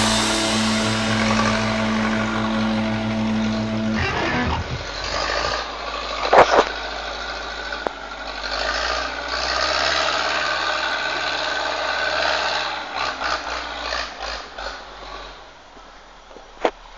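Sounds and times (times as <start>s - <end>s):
tractor diesel engine under load: 0.0s - 6.2s, 6.8s - 15.5s.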